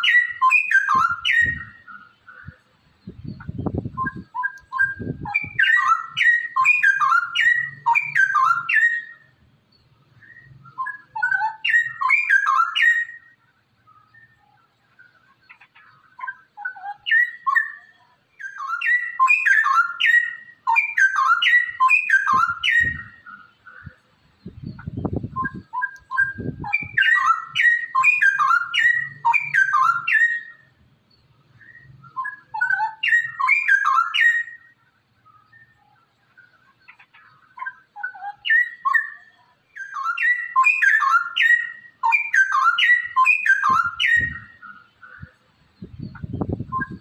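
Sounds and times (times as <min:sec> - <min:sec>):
bird singing: 0:00.0 - 0:47.0.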